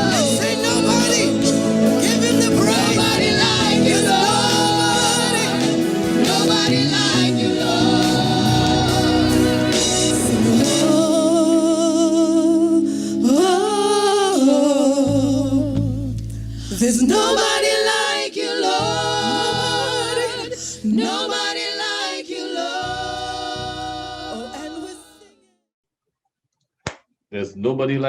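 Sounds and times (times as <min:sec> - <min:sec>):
worship team singing: 0:00.0 - 0:15.9, 0:16.7 - 0:25.4
musical accompaniment: 0:00.0 - 0:25.3.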